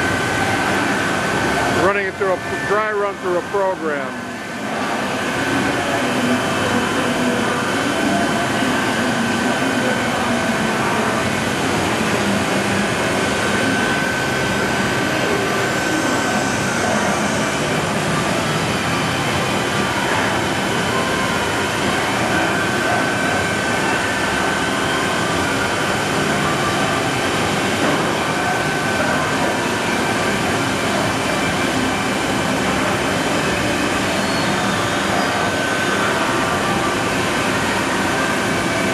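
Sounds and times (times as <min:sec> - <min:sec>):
high-pitched whine: 0:00.0 - 0:38.9
machining center running: 0:00.0 - 0:38.9.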